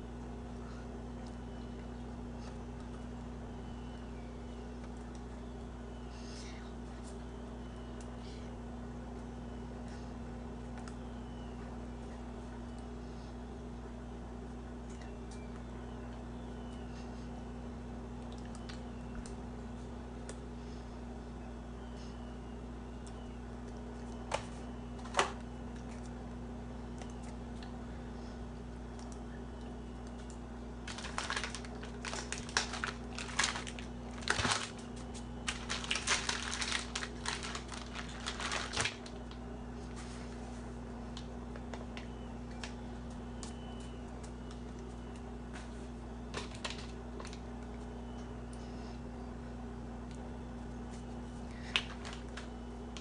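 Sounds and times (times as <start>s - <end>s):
low electrical hum: 0.0s - 53.0s.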